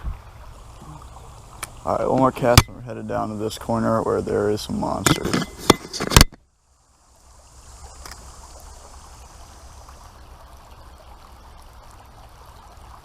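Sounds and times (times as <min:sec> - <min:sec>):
creek water babbling: 0:00.0 - 0:13.0.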